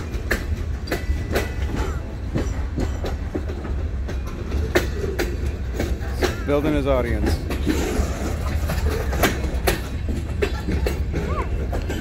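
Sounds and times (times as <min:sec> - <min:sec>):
freight train rumbling past: 0:00.0 - 0:12.0
train wheels clacking: 0:00.0 - 0:12.0.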